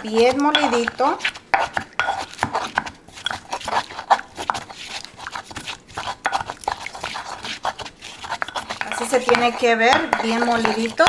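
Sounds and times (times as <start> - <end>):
stone pestle grinding in mortar: 0.0 - 11.0.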